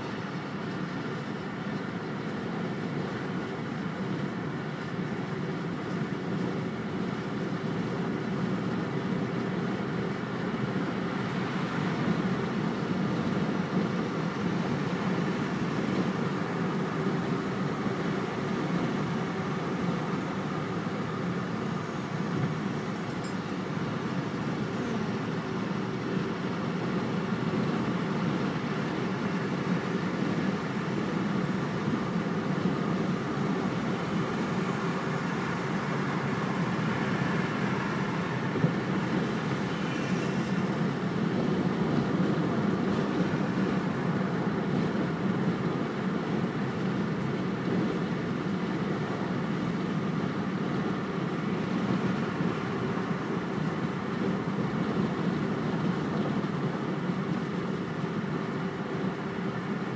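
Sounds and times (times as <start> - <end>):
car road noise from inside: 0.0 - 59.9.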